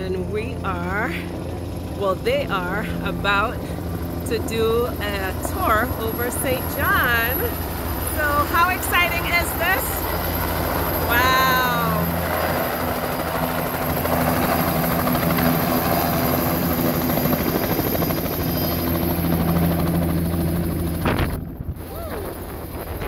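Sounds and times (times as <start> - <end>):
helicopter rotor and engine drone: 0.0 - 23.0.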